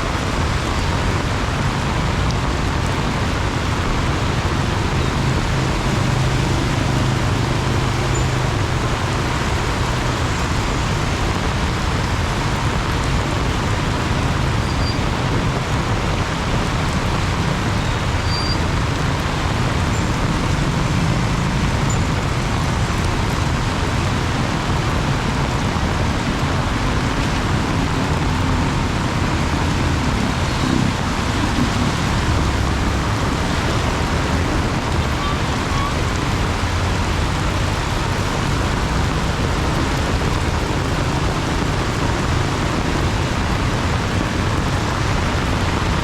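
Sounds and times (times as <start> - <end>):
heavy rain pouring: 0.0 - 46.0
low rumble of road traffic: 0.0 - 46.0.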